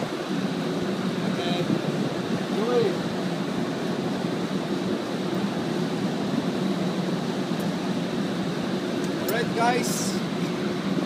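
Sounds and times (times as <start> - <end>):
ship machinery hum: 0.0 - 11.0.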